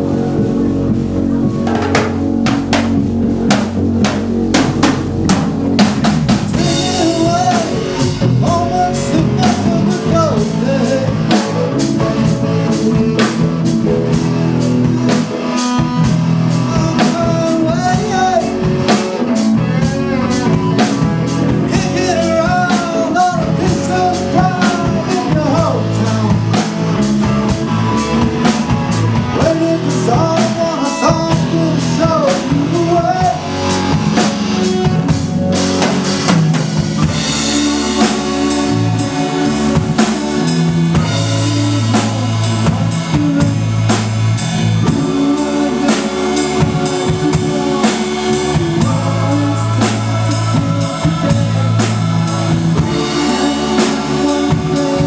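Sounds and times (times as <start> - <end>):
live rock band: 0.0 - 55.0
man singing: 5.6 - 55.0.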